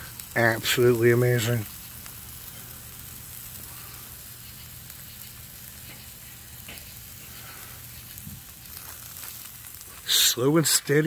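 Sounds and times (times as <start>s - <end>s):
faint crackling: 0.0s - 11.0s
sausages sizzling on a grill: 0.0s - 11.0s.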